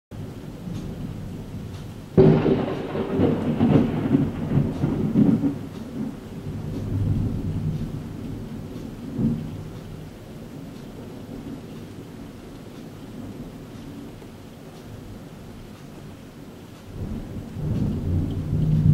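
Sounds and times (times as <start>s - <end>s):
rain falling: 0.1s - 18.9s
thunder crack and rumble: 0.2s - 18.9s.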